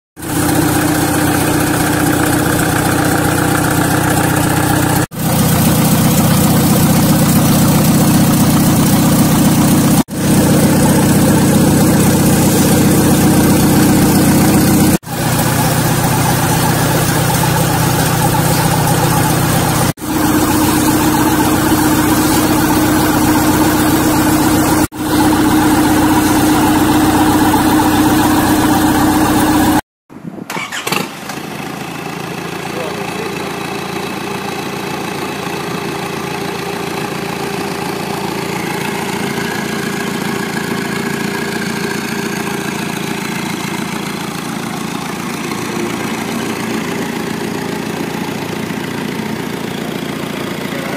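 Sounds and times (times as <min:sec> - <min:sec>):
diesel engine running: 0:00.2 - 0:29.8, 0:30.4 - 0:50.9.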